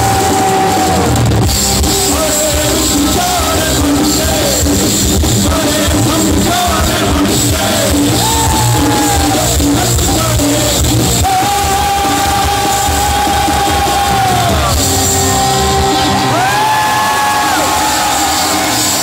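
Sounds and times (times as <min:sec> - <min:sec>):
live rock band playing: 0:00.0 - 0:19.0
person singing: 0:01.9 - 0:18.6.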